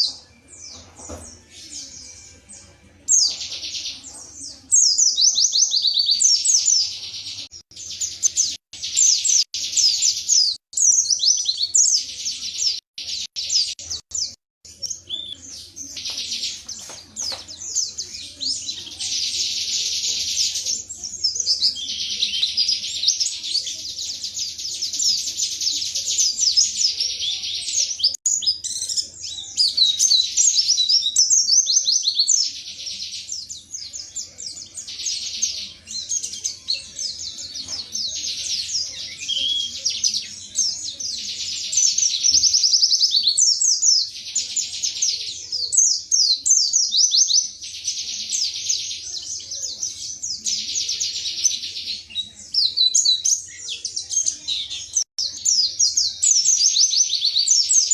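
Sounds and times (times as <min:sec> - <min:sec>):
bird chattering song: 0:00.0 - 0:57.9.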